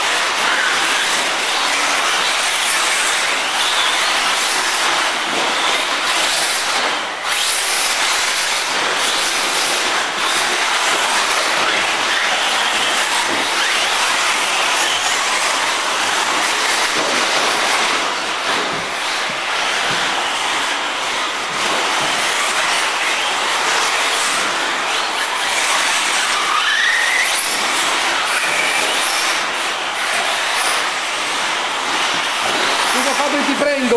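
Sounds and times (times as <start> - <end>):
rc car motor whine: 0.0 - 33.9.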